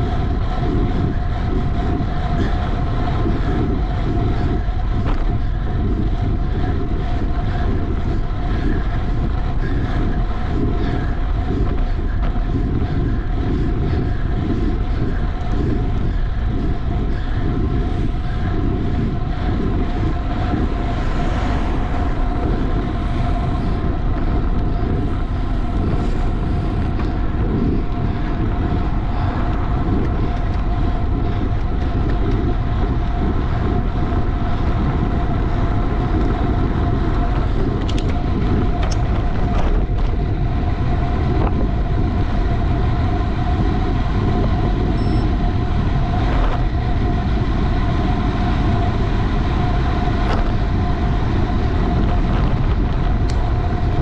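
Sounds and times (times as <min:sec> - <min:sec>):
bicycle road noise: 0:00.0 - 0:54.0
high hum: 0:00.0 - 0:54.0
wind buffeting microphone: 0:00.0 - 0:54.0.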